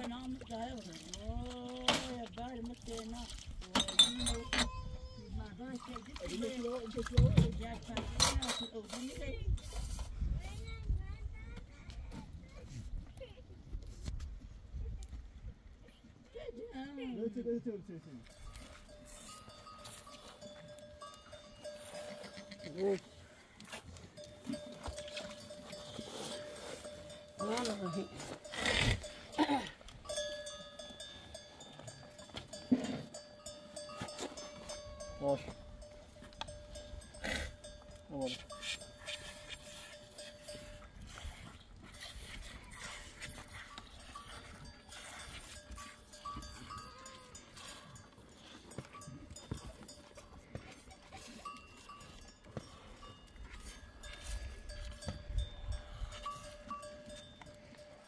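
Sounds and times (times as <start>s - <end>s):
goat bells ringing: 2.1s - 9.8s, 17.1s - 58.0s.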